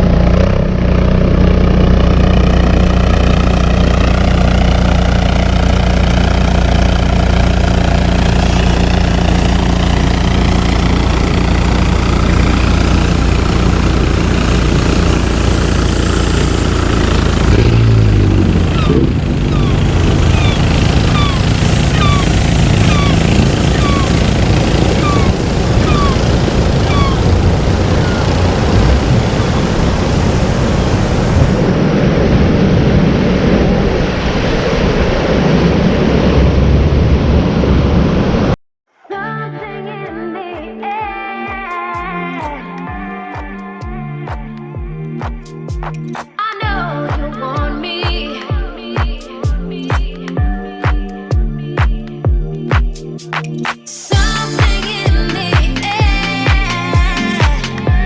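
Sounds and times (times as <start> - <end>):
vehicle engine running: 0.0 - 38.6, 41.6 - 58.0.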